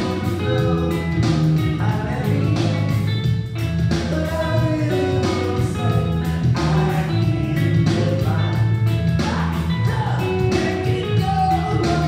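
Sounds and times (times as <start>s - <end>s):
song with singing over beat: 0.0s - 12.0s.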